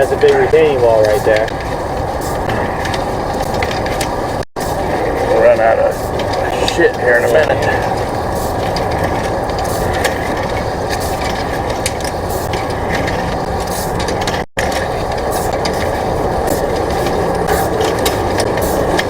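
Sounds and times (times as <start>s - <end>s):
mechanical running noise: 0.0s - 19.0s.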